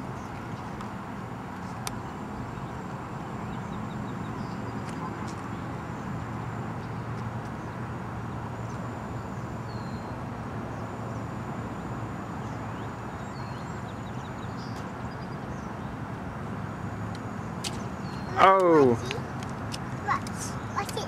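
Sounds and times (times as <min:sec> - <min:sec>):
distant road traffic: 0:00.0 - 0:21.0.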